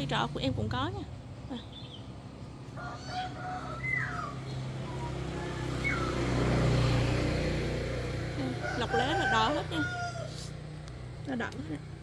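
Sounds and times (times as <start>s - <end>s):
low engine hum: 0.0s - 12.0s
birds calling: 1.1s - 11.1s.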